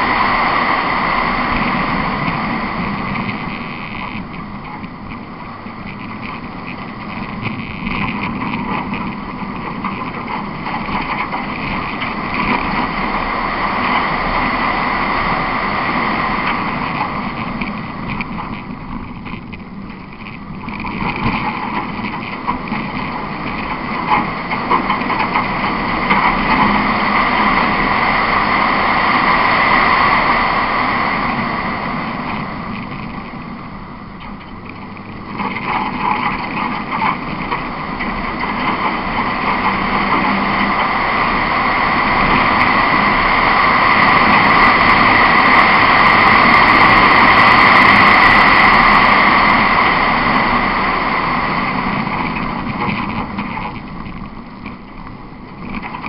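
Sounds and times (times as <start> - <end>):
gravel road noise: 0.0 - 56.0
rally car engine revving: 0.0 - 56.0.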